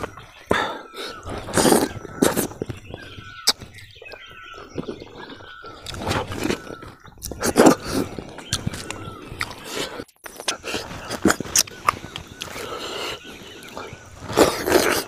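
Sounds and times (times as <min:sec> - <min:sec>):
chewing and lip-smacking: 0:01.4 - 0:15.0.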